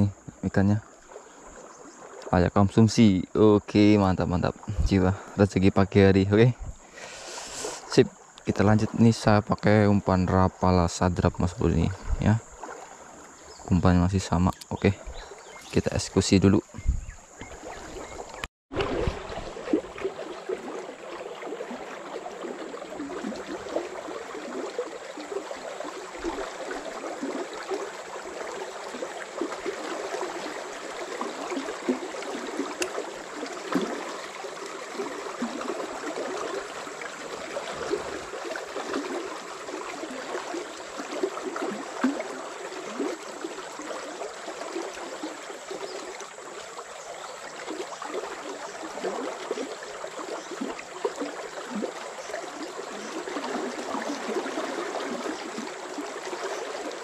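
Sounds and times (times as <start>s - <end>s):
river water gurgling: 0.0s - 57.0s.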